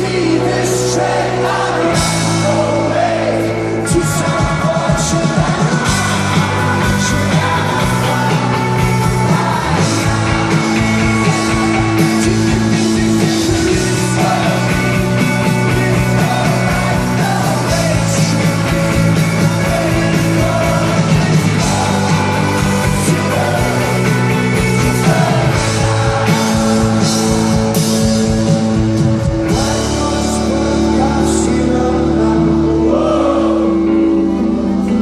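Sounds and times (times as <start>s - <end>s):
drums: 0.0s - 35.0s
live rock band: 0.0s - 35.0s
person singing: 0.0s - 35.0s.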